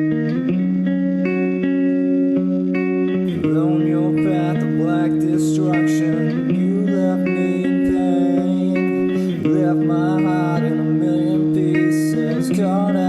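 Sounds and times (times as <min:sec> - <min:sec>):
sustained guitar chords: 0:00.0 - 0:13.0.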